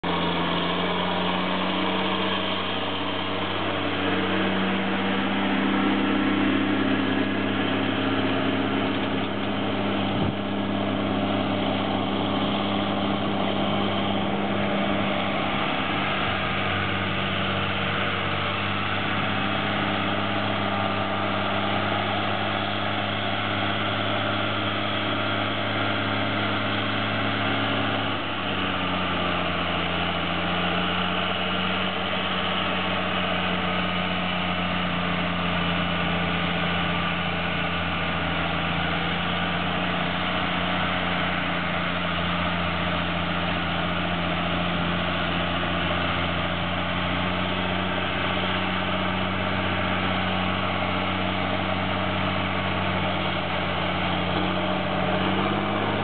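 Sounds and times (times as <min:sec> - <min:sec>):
diesel tractor engine droning: 0:00.0 - 0:56.0.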